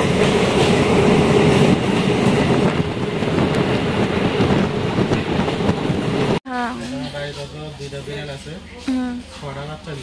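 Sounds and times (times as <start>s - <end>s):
train wheels on rails: 0.0s - 8.3s.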